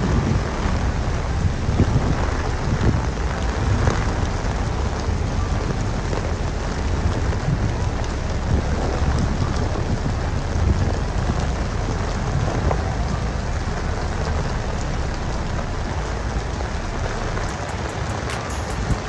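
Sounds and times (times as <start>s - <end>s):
heavy rain on street: 0.0s - 19.0s
low rumble: 0.0s - 19.0s.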